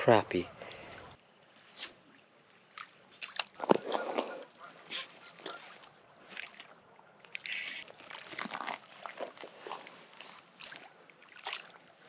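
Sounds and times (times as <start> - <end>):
water splashing and trickling: 0.7 - 12.0.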